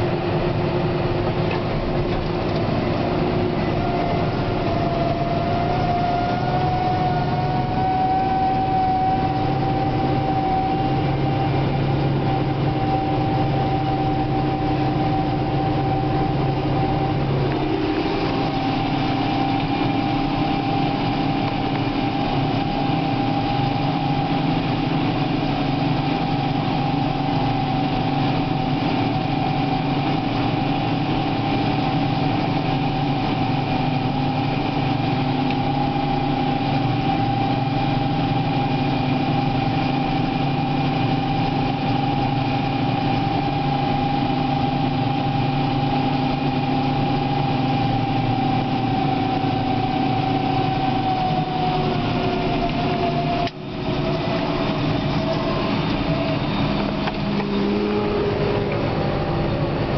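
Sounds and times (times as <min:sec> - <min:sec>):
steady whine: 0:00.0 - 0:59.9
tractor engine drone: 0:00.0 - 0:59.9.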